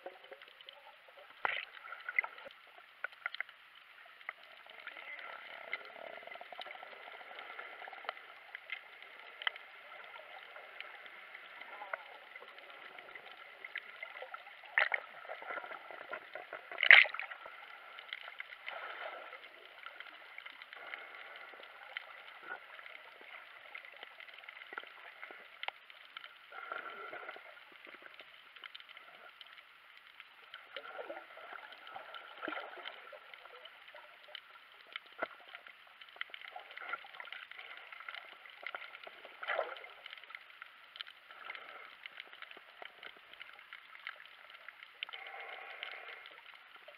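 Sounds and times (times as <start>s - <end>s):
underwater gurgling and sloshing: 0.0s - 46.9s.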